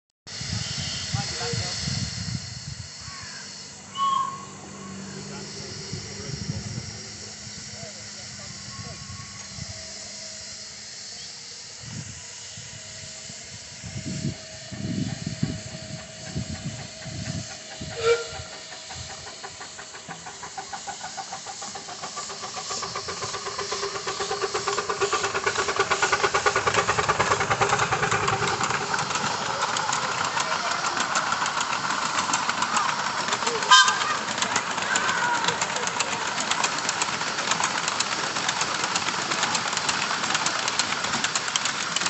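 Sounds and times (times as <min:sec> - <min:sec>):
locomotive puffs: 0:00.3 - 0:42.0
steam locomotive hissing: 0:00.3 - 0:42.0
train rhythmic beats: 0:00.4 - 0:42.0.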